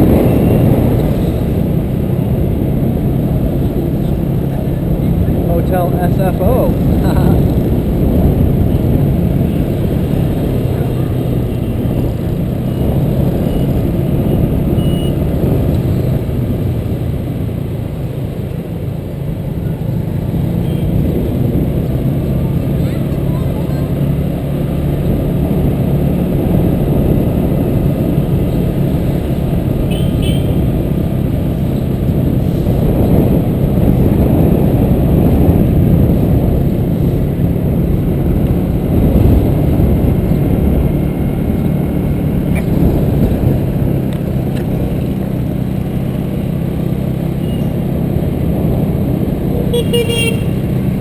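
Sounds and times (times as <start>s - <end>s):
vehicle engine hum: 0.0s - 51.0s
wind rumble on microphone: 0.0s - 51.0s.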